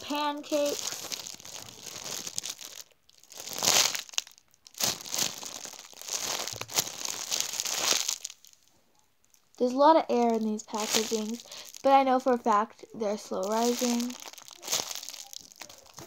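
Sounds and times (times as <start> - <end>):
plastic bag crinkling: 0.0 - 12.5, 13.1 - 16.0.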